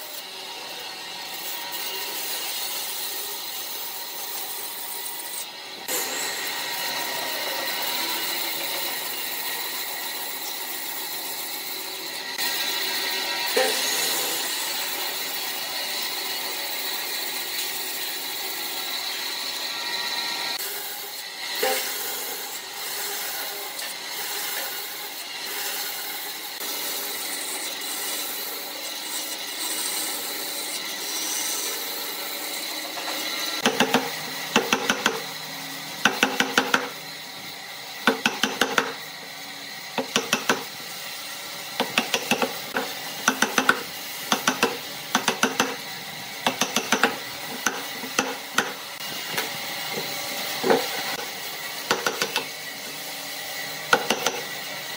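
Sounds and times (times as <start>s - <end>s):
bandsaw cutting wood: 0.0s - 54.9s.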